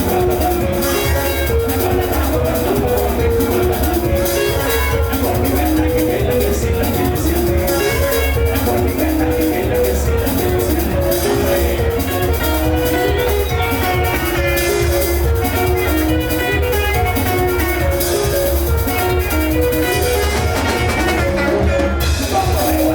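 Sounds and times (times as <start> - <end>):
heavy bass line: 0.0 - 22.9
plucked guitar melody: 0.0 - 22.9
steady drums: 0.0 - 22.9.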